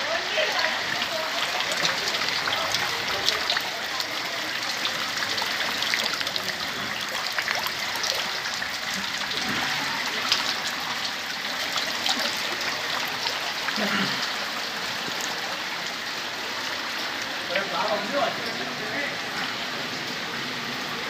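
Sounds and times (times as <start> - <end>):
heavy rain: 0.0 - 21.0
running floodwater: 0.0 - 21.0.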